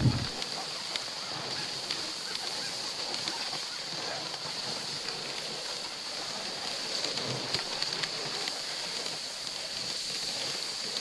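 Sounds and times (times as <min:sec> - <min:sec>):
sled runners hissing on snow: 0:00.0 - 0:11.0.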